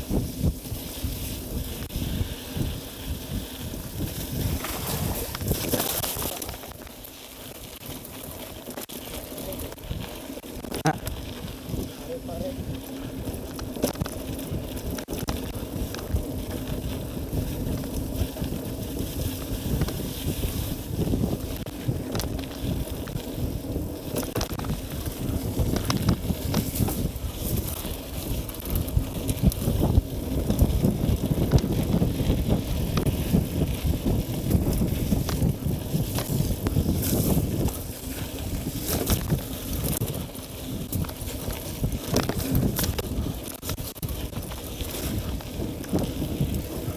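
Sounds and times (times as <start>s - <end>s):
wind buffeting microphone: 0.0s - 6.9s, 9.3s - 46.9s
bike frame rattling: 0.0s - 46.9s
bike tyres rumbling on dirt: 0.0s - 46.9s.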